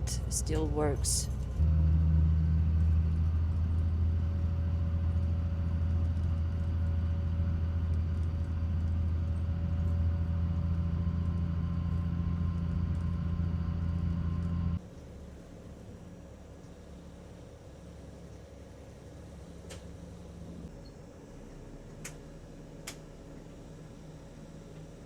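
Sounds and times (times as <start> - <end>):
bus engine droning: 0.0 - 25.0.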